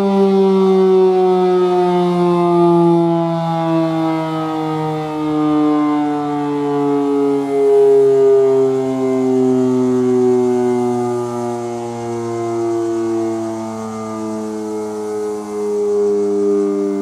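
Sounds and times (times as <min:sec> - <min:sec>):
mechanical siren winding down: 0:00.0 - 0:17.0.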